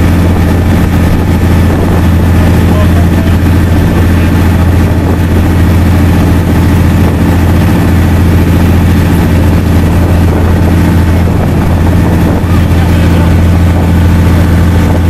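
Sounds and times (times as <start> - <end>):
boat engine droning: 0.0 - 15.0
wake rushing: 0.0 - 15.0
wind: 0.0 - 15.0.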